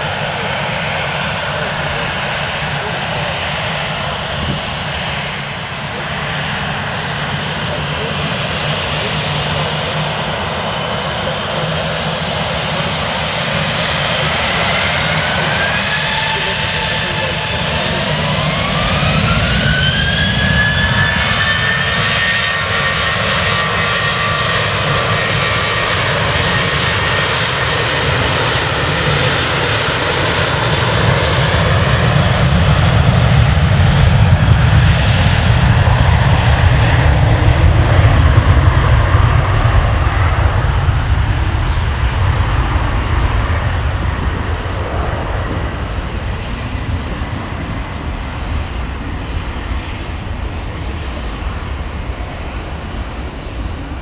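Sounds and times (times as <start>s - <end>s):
jet engine roar and rumble: 0.0s - 54.0s
jet engines whining: 0.0s - 54.0s.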